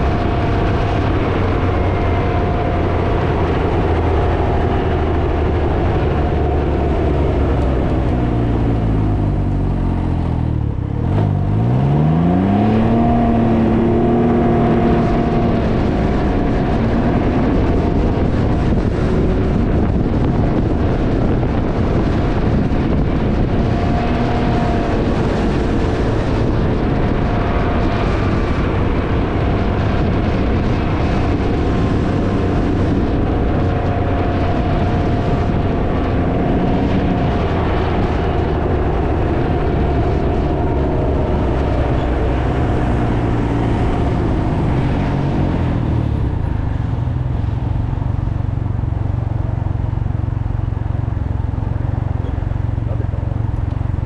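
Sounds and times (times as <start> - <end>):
vehicle engine running: 0.0 - 54.0
wind buffeting microphone: 0.0 - 54.0.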